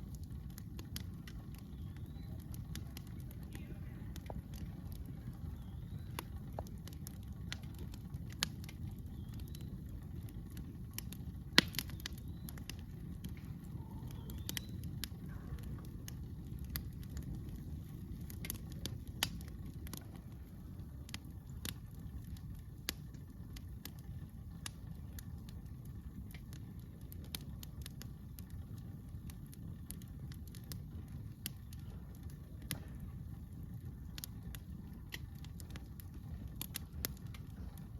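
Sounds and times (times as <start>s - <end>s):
campfire crackling and popping: 0.0s - 37.9s.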